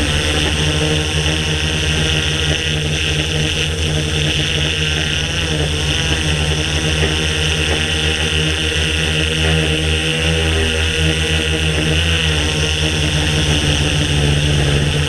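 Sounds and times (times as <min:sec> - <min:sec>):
drone propellers droning: 0:00.0 - 0:15.0.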